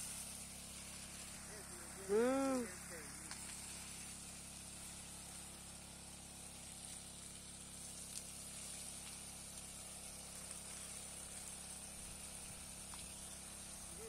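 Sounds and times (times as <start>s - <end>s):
hose water jet hissing: 0.0s - 14.0s.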